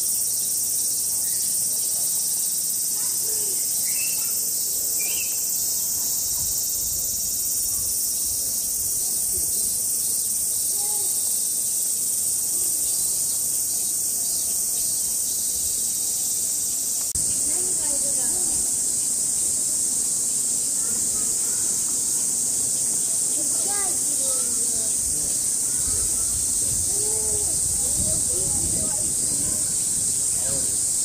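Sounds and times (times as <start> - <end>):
cicadas droning: 0.0 - 31.0.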